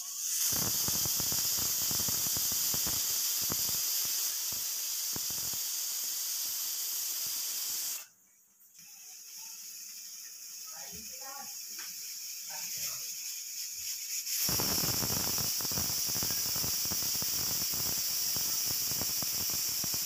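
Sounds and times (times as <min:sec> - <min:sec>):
pressure cooker steam hissing: 0:00.0 - 0:08.1, 0:08.8 - 0:20.0
sputtering crackle: 0:00.2 - 0:08.1, 0:10.3 - 0:20.0.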